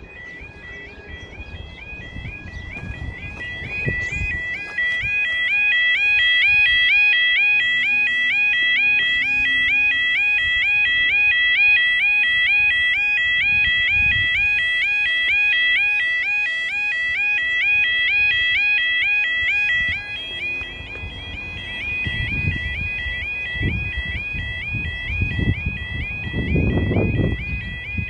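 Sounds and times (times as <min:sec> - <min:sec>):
level crossing alarm warbling: 0:00.0 - 0:28.0.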